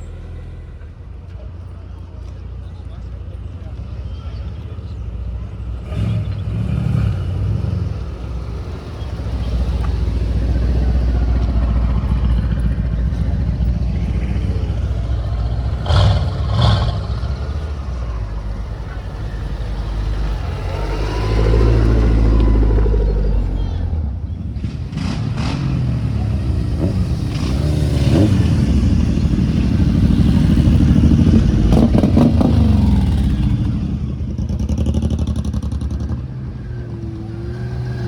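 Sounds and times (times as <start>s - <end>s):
car engines rumbling: 0.0s - 38.0s.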